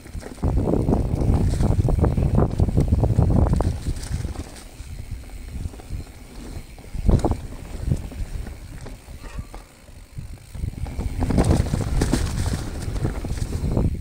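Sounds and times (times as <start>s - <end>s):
bike knocks and rattles: 0.0s - 14.0s
bike tyres rumbling over dirt: 0.0s - 14.0s
wind buffeting microphone: 0.0s - 14.0s.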